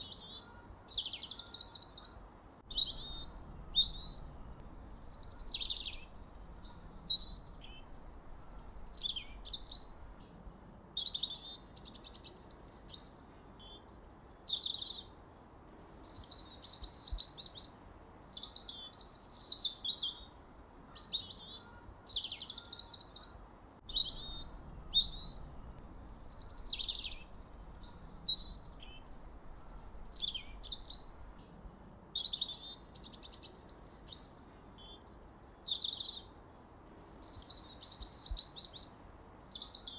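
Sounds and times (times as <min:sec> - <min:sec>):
faint low hiss: 0:00.0 - 0:39.9
songbird singing: 0:00.0 - 0:39.9.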